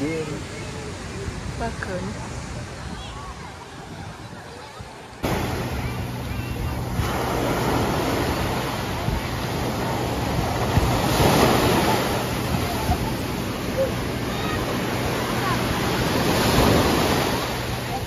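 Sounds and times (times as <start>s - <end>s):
wave crashing: 0.0s - 18.0s
waves washing up shore: 0.0s - 18.0s.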